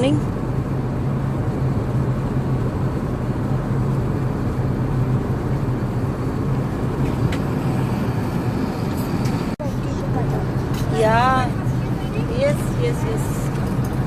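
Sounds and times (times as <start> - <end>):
engine and airflow rush: 0.0 - 14.0
steady low hum: 0.0 - 14.0.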